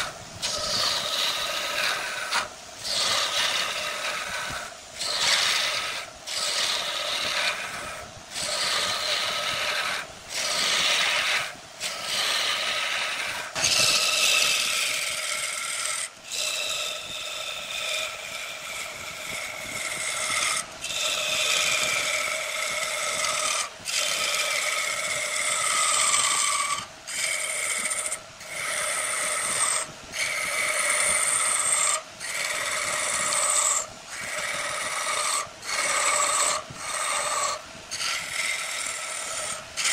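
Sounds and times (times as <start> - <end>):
lathe tool scraping spinning wood: 0.0 - 39.9.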